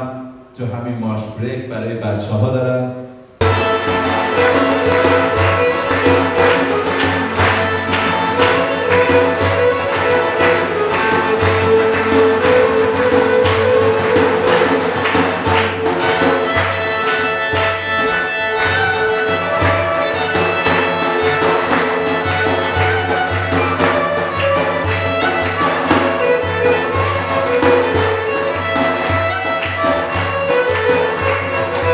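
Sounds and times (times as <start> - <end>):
frame drum beat: 3.4 - 31.9
violin melody: 3.4 - 31.9.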